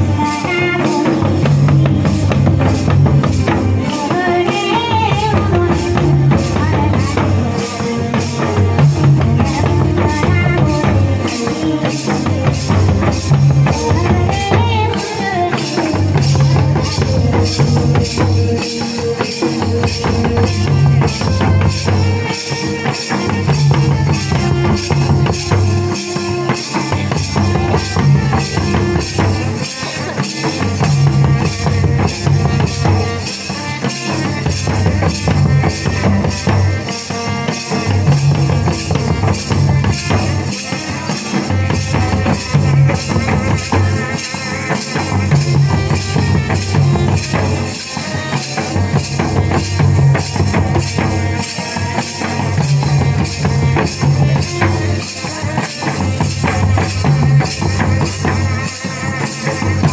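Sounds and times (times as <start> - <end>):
hand drums playing dance rhythm: 0.0 - 59.9.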